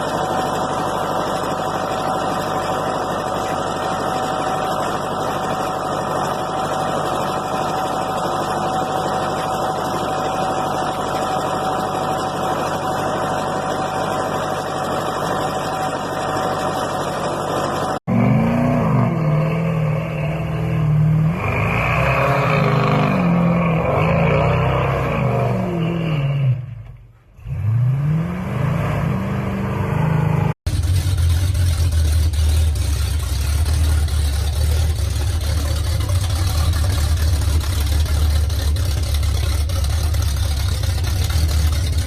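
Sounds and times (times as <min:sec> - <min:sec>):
truck engine running: 0:00.0 - 0:25.1, 0:30.0 - 0:42.0
truck engine revving: 0:00.0 - 0:42.0.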